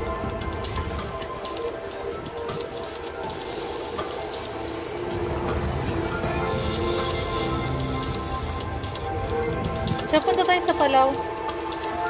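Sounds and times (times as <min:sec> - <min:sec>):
light ticking percussion: 0:00.0 - 0:12.0
music with held notes: 0:00.0 - 0:12.0.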